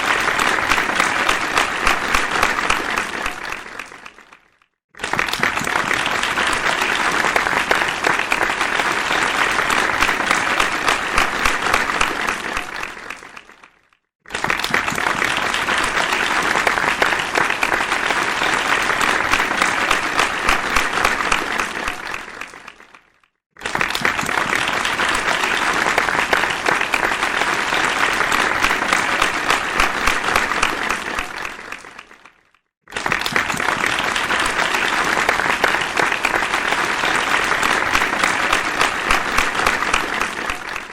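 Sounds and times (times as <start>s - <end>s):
crowd applause: 0.0s - 40.9s.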